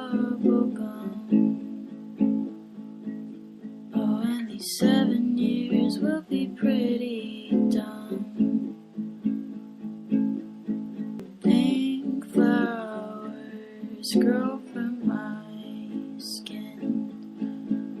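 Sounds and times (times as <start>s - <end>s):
acoustic plucked strings strummed: 0.0s - 18.0s.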